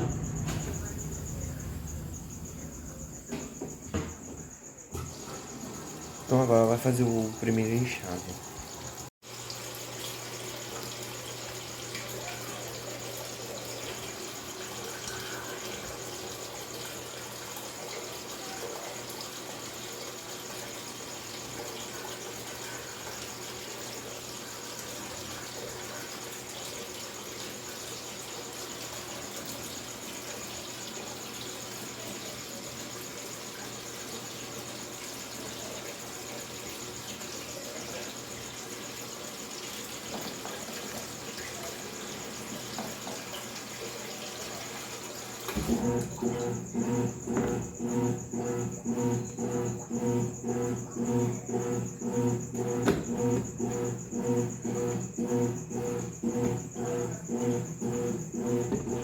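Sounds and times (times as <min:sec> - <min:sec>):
water pouring into tub: 0:05.1 - 0:59.0.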